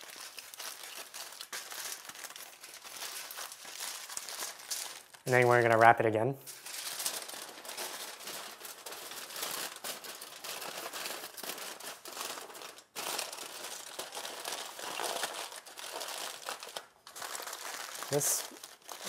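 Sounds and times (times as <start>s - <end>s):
aluminum foil crinkling: 0.0s - 5.9s, 6.5s - 19.0s.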